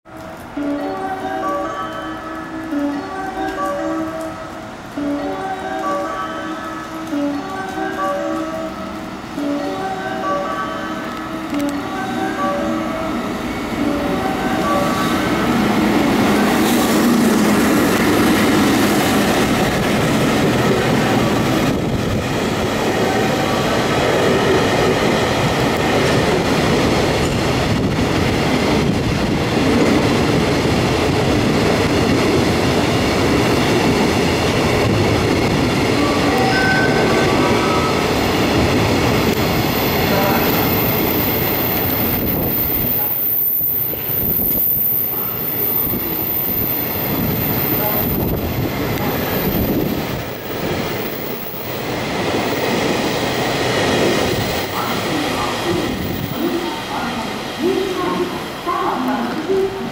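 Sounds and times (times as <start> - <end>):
freight train wheels rumbling on rails: 0.1 - 59.9.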